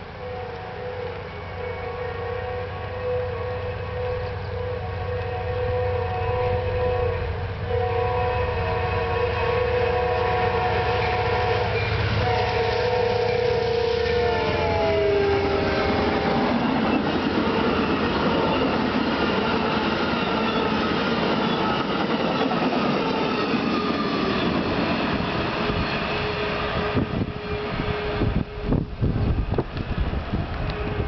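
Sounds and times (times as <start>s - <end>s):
train horn: 0.0s - 29.6s, 30.3s - 31.0s
train passing with rail rumble: 0.0s - 31.0s.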